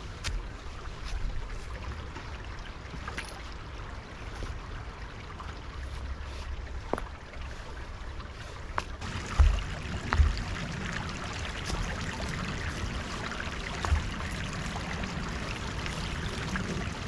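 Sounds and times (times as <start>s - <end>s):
stream running: 0.0s - 17.0s.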